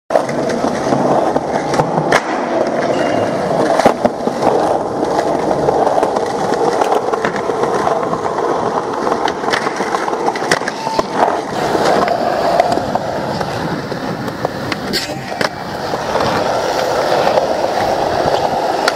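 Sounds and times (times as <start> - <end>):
skateboard clacks: 0.1 - 18.9
skateboard wheels rolling on pavement: 0.1 - 18.9.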